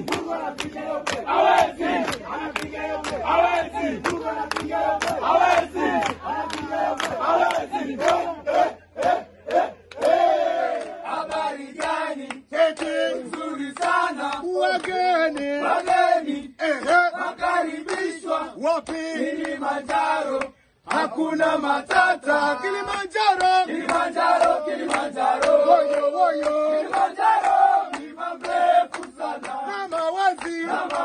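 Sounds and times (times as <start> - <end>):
hand clapping: 0.0 - 8.3, 9.0 - 18.2, 18.8 - 21.1, 21.8 - 31.0
group of voices chanting: 0.0 - 31.0.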